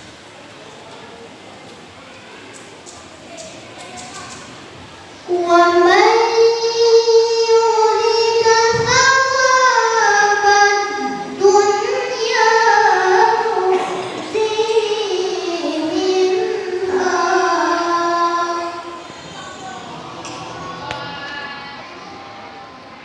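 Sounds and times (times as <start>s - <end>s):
boy reciting melodically: 2.1s - 22.1s.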